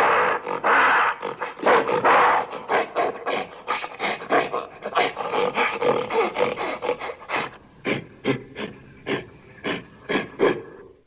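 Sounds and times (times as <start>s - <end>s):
gorilla grunts: 0.0s - 10.9s.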